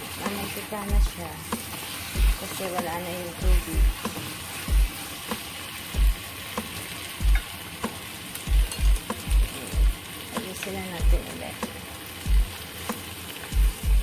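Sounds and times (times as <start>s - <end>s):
chicken wings sizzling in a pan: 0.0s - 14.0s.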